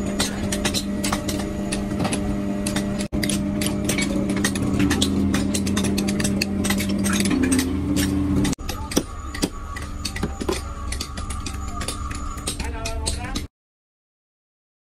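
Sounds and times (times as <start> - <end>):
machine humming: 0.0 - 13.2
scattered knocks: 0.2 - 13.5.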